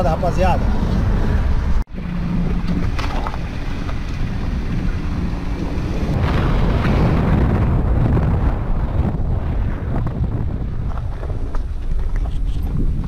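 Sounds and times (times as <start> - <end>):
tyres rolling on dirt road: 0.0 - 13.0
wind buffeting microphone: 0.0 - 13.0.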